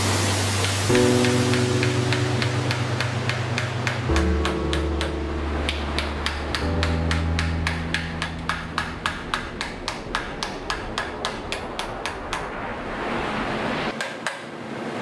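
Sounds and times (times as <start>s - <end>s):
hammer striking hot steel: 0.6s - 12.5s, 13.9s - 14.5s.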